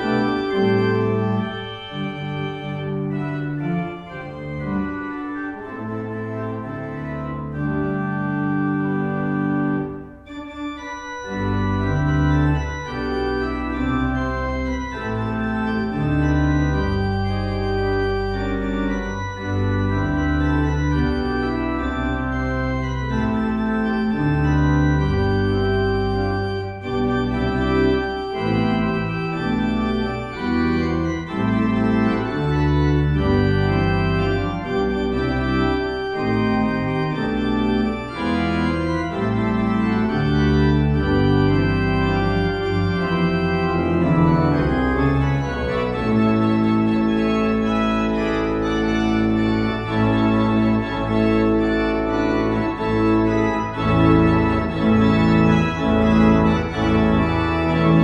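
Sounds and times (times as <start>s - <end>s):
church organ chords: 0.0s - 58.0s
deep organ pedal bass: 0.0s - 58.0s.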